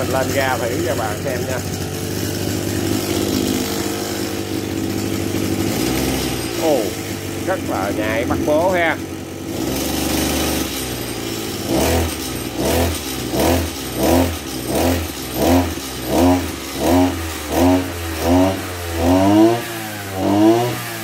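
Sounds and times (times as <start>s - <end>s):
brush cutter engine revving: 0.0s - 21.0s.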